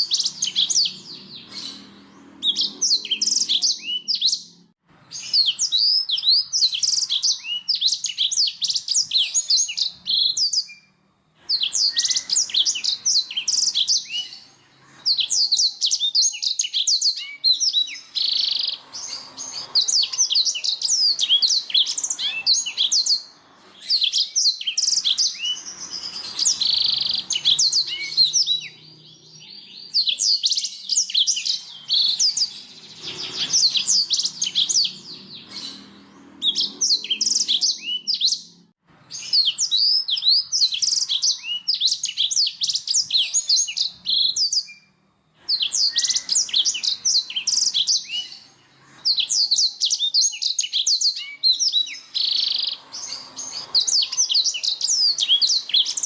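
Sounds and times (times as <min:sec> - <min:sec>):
canary chirping and trilling: 0:00.0 - 0:56.0.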